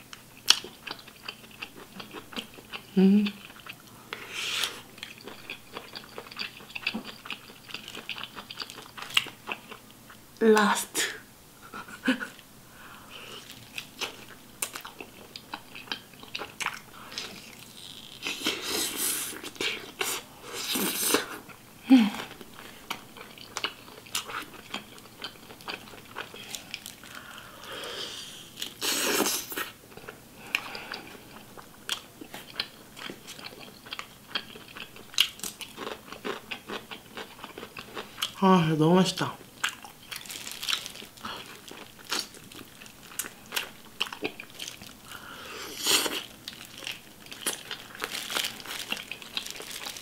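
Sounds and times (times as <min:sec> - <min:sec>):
chewing and crunchy bites: 0:00.1 - 0:04.0, 0:04.6 - 0:10.2, 0:13.3 - 0:21.3, 0:22.5 - 0:27.4, 0:28.6 - 0:38.4, 0:39.6 - 0:45.1, 0:45.8 - 0:50.0.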